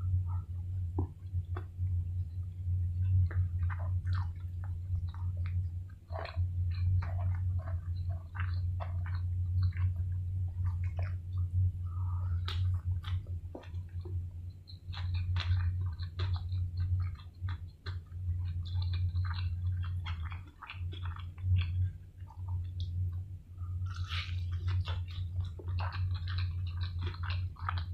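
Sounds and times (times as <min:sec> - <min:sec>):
person chewing with wet clicks: 0:00.0 - 0:27.9
steady low hum: 0:00.0 - 0:27.9.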